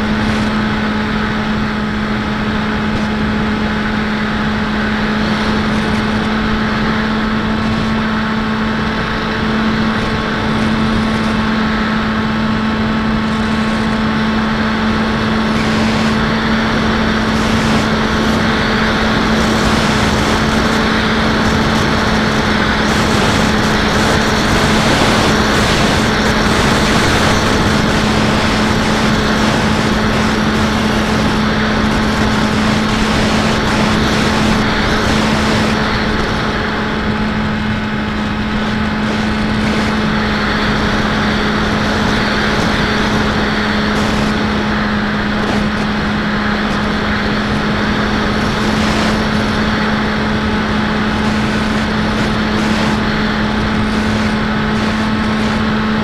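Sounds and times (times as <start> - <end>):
electric motor and propeller drone: 0.0 - 56.0
rush of wind: 0.0 - 56.0.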